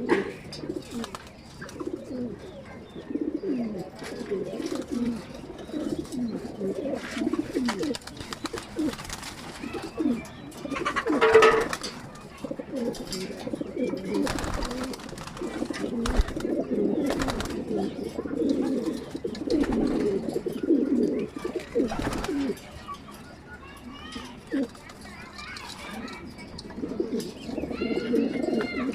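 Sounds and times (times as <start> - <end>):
pigeons cooing: 0.0 - 23.1, 24.4 - 24.8, 25.9 - 28.9.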